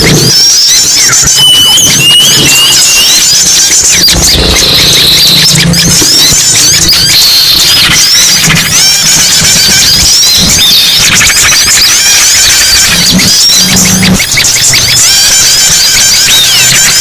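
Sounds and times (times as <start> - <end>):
songbirds chirping and twittering: 0.0 - 17.0.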